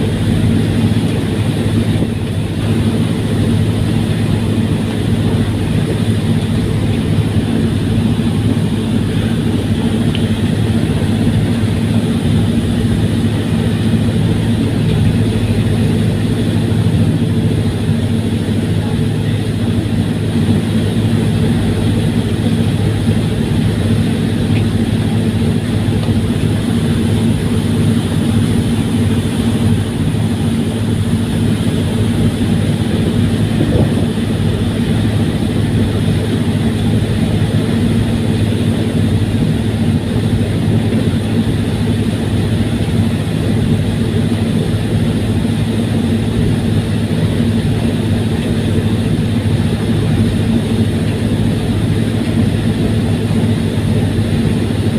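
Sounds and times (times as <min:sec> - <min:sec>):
ferry engines droning: 0:00.0 - 0:54.9.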